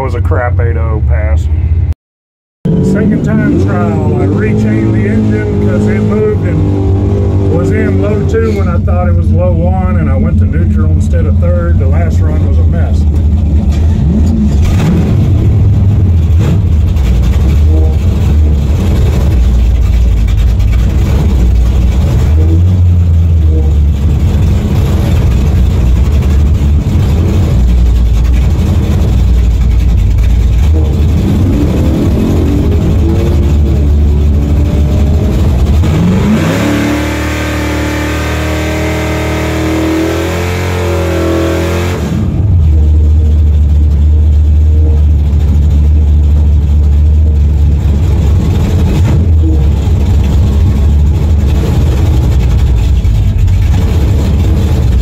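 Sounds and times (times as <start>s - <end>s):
car engine rumbling and revving: 0.0s - 2.0s, 2.6s - 55.0s.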